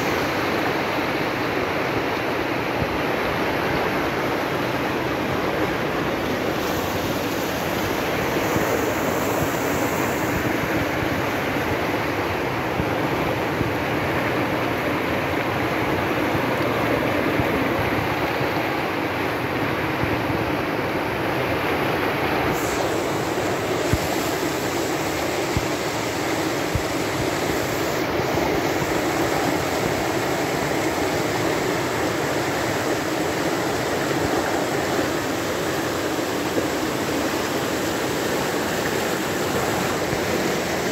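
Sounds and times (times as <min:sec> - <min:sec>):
floodwater rushing: 0:00.0 - 0:40.9.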